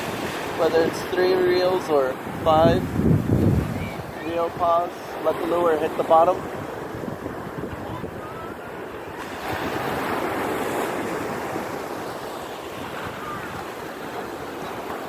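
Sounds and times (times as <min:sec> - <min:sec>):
surf washing over sand: 0:00.0 - 0:15.0.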